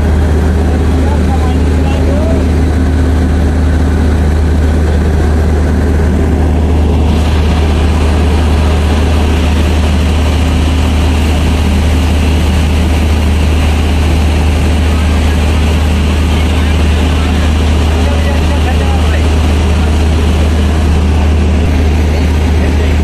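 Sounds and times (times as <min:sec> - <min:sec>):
broad rushing noise: 0:00.0 - 0:23.0
deep machinery hum: 0:00.0 - 0:23.0.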